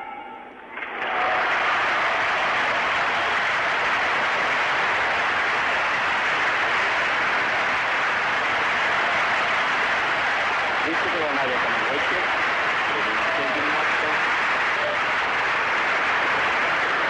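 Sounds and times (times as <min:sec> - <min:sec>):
crowd applauding: 0:00.7 - 0:17.0.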